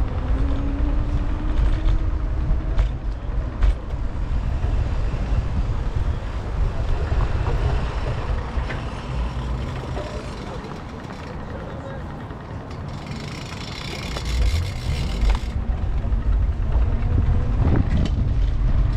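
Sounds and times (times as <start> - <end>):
road and wind rumble: 0.0 - 18.9
traffic: 0.0 - 18.9.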